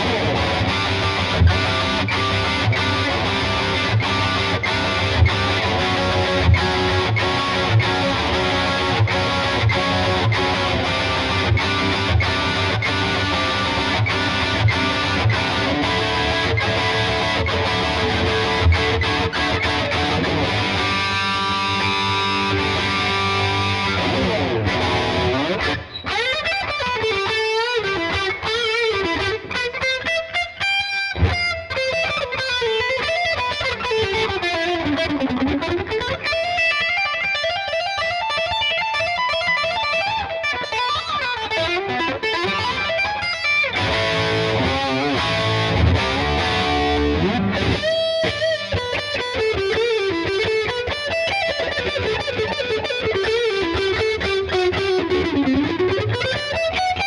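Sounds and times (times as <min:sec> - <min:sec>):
distorted electric guitar solo: 0:00.0 - 0:57.0.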